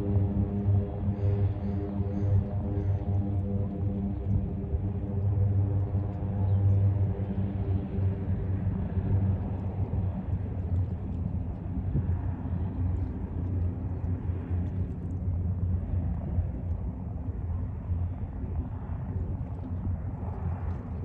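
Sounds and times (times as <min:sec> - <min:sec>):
propeller plane engine rumble: 0:00.0 - 0:21.0.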